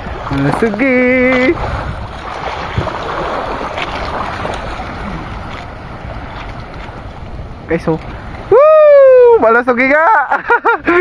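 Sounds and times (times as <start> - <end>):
wind on microphone: 0.0 - 9.5
sea water washing around boat: 0.0 - 11.0.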